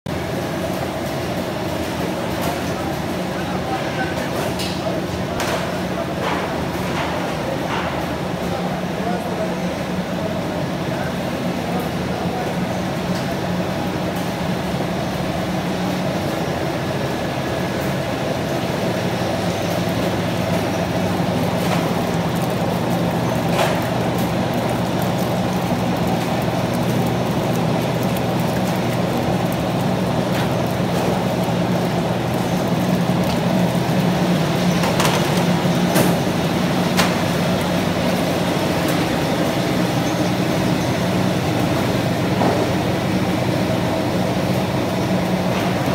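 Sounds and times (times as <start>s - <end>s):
machinery humming and rumbling: 0.1s - 45.9s.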